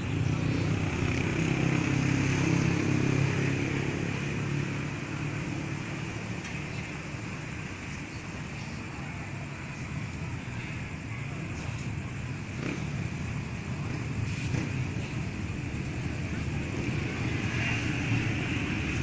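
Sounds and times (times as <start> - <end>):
diesel train engine drone: 0.0 - 19.0.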